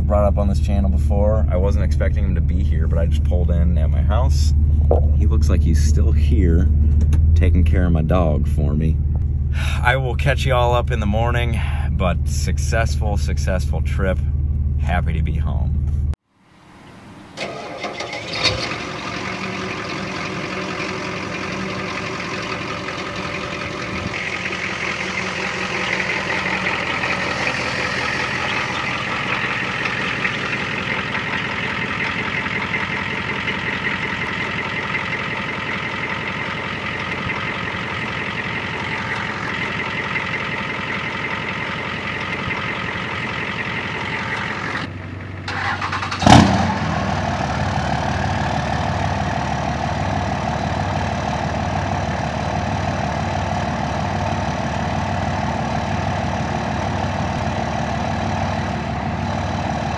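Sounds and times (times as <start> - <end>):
diesel engine idling: 0.0 - 16.2, 17.1 - 59.9.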